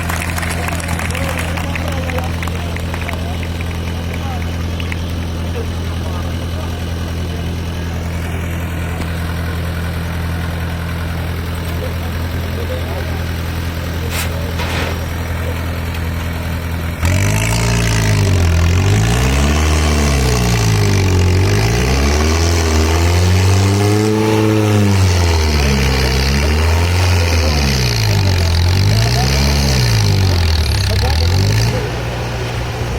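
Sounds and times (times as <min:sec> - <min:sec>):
tractor diesel engine revving: 0:00.0 - 0:32.9.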